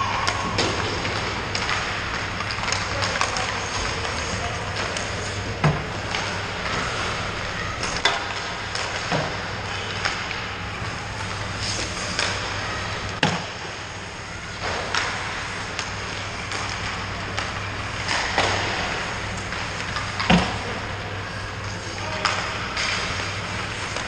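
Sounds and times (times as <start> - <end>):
pucks and sticks clacking: 0.0 - 13.8, 14.5 - 24.0
steady low hum: 0.0 - 24.0.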